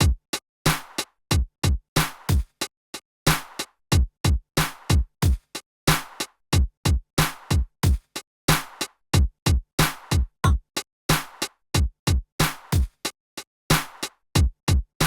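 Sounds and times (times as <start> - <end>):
drum machine beat: 0.0 - 2.5, 3.3 - 12.9.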